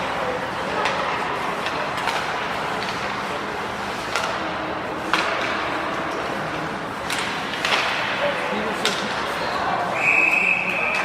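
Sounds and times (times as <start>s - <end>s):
rink crowd hubbub: 0.0s - 11.0s
sticks and puck clacking on ice: 0.5s - 11.0s.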